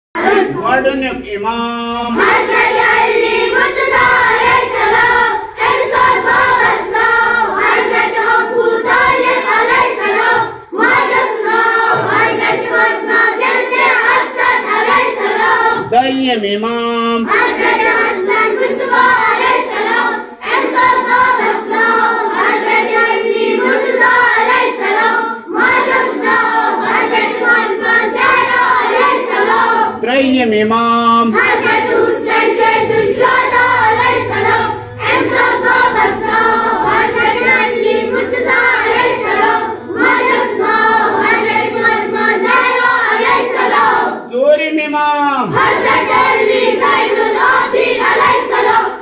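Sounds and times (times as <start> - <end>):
children chanting in unison: 0.2 - 0.6, 2.1 - 16.0, 17.2 - 30.1, 31.2 - 44.3, 45.4 - 49.0.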